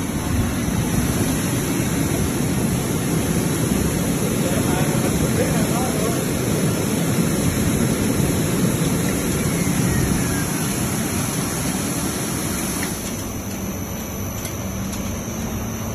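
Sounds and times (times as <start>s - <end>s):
air bubbles churning water: 0.0s - 13.5s
low steady hum: 0.0s - 15.9s.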